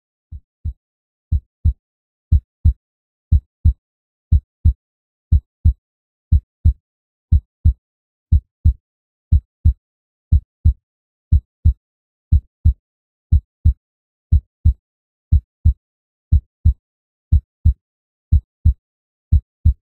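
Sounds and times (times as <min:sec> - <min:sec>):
heartbeat thumps: 0:00.6 - 0:03.4, 0:04.3 - 0:07.4, 0:08.3 - 0:19.8.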